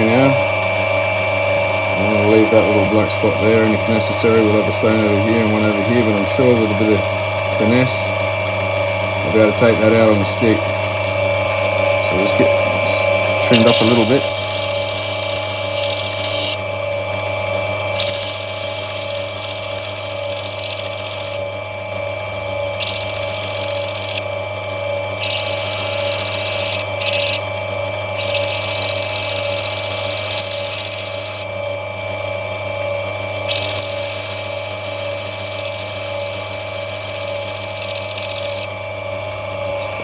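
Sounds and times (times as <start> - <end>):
grinding machine motor hum: 0.0 - 40.0.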